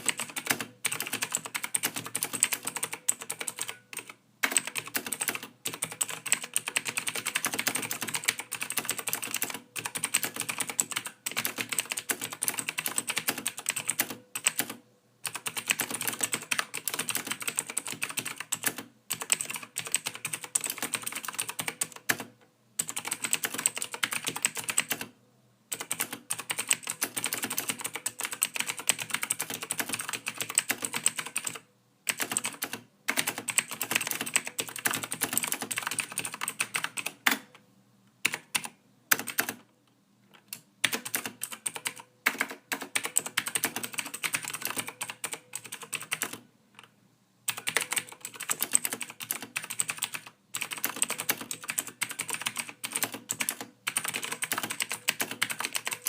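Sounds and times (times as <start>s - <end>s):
typing on a computer keyboard: 0.0s - 25.1s, 25.7s - 37.6s, 38.2s - 39.7s, 40.3s - 46.9s, 47.5s - 56.0s.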